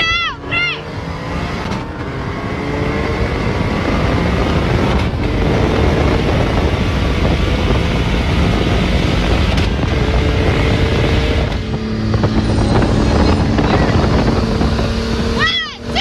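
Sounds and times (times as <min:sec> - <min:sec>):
car engine under load: 0:00.0 - 0:16.0
wind rushing over microphone: 0:00.0 - 0:16.0.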